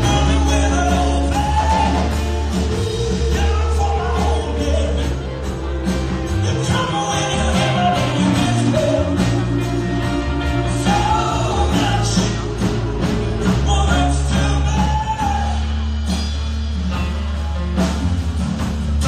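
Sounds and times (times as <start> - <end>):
person singing: 0.0 - 15.9
bass guitar: 0.0 - 19.0
drum kit beat: 0.0 - 19.0
electric guitar: 0.0 - 19.0.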